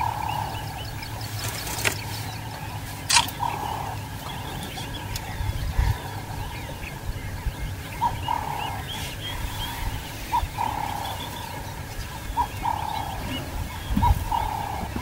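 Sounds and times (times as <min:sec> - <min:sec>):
buzzy animal calls: 0:00.0 - 0:15.0
faint bird chirps: 0:00.0 - 0:15.0
low rumble: 0:00.0 - 0:15.0.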